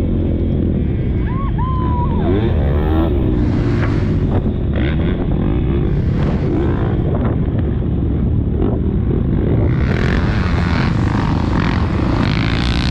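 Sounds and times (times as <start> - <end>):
wind noise on microphone: 0.0 - 12.9
motocross bike engine under throttle: 2.3 - 12.9.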